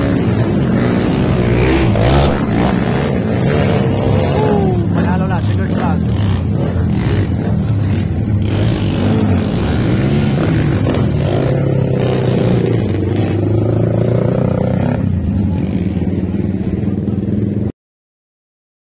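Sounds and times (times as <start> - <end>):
motorcycle engines revving: 0.0 - 17.7.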